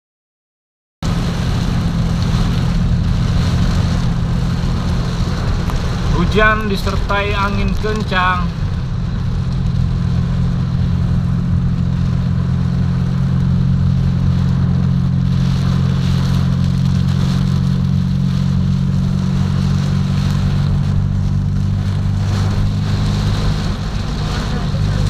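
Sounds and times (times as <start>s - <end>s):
heavy rain and wind: 1.0s - 25.0s
low engine hum: 1.0s - 25.0s.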